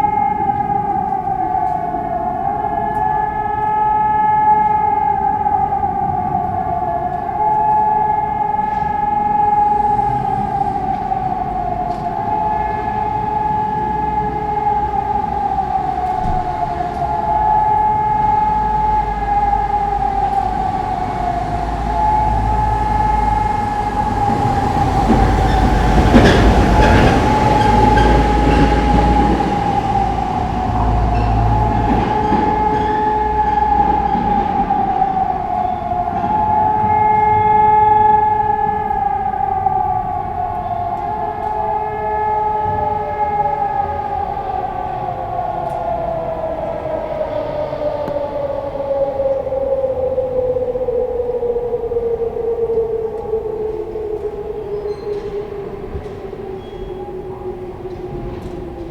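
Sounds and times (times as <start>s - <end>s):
low vehicle rumble: 0.0s - 58.9s
warning siren: 0.0s - 58.9s.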